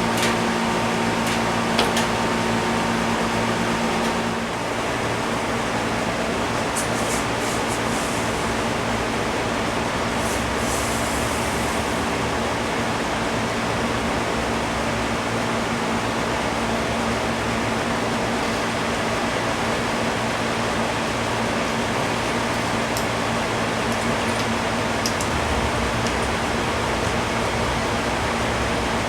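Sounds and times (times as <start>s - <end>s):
air conditioner running: 0.0s - 29.0s.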